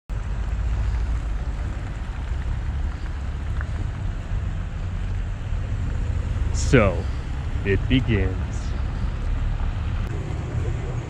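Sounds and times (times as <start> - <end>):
low rumble: 0.1 - 11.0
tyres hissing on wet road: 0.2 - 10.1.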